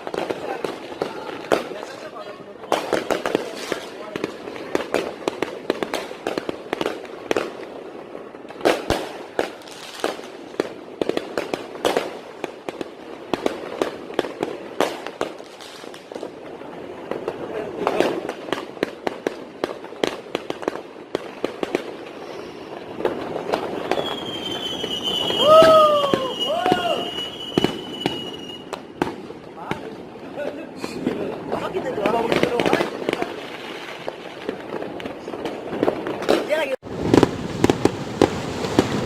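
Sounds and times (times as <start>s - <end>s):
fireworks bangs and crackling: 0.0s - 39.0s
sharp loud firework cracks: 0.0s - 39.0s.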